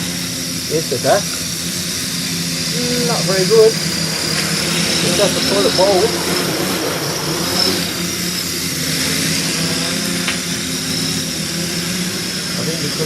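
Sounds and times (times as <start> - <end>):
drone motors buzzing: 0.0 - 13.0.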